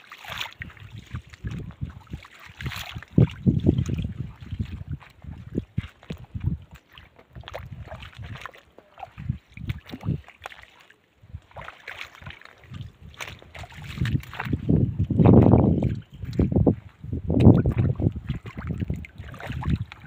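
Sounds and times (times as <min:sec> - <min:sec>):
footsteps on wet rock and water: 0:00.0 - 0:20.0
wind buffeting microphone: 0:00.6 - 0:08.5, 0:09.1 - 0:10.3, 0:12.2 - 0:20.0.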